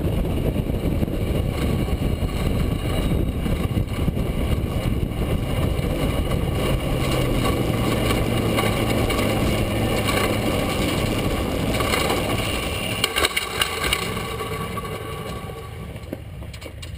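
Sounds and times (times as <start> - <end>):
wind rumble on microphone: 0.0 - 16.9.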